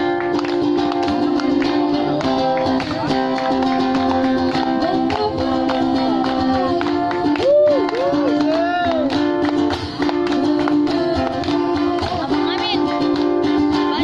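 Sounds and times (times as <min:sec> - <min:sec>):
held melody line: 0:00.0 - 0:14.0
plucked guitar: 0:00.0 - 0:14.0.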